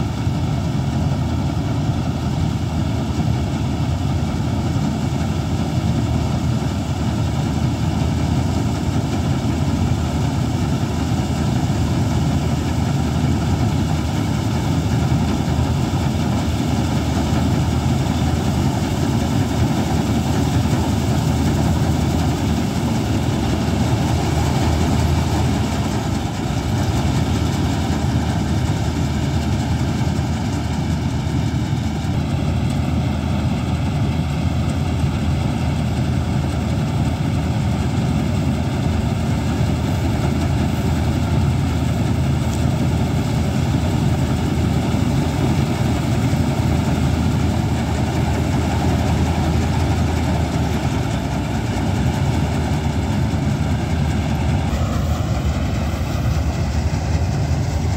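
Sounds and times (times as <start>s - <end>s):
combine harvester diesel engine running: 0.0s - 57.9s.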